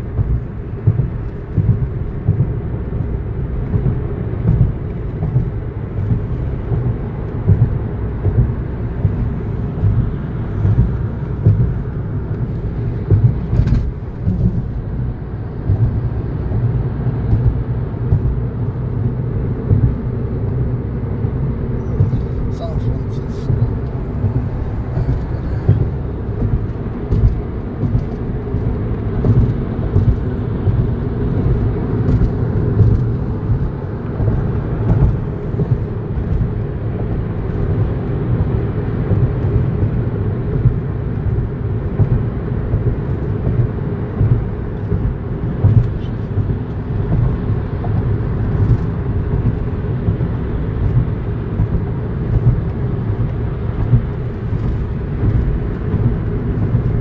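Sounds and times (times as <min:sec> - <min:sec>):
car driving heard from cabin: 0:00.0 - 0:57.0
tyre and engine road noise: 0:00.0 - 0:57.0.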